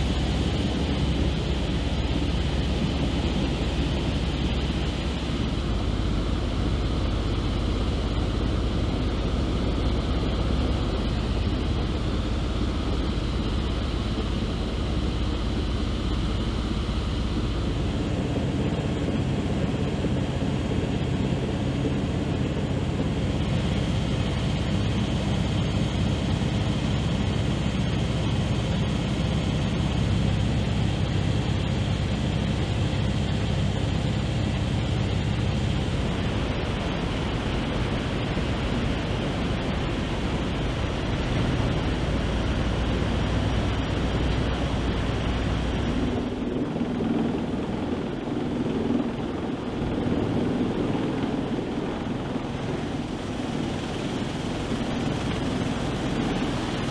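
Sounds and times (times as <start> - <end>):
aircraft engines droning: 0.0 - 56.9.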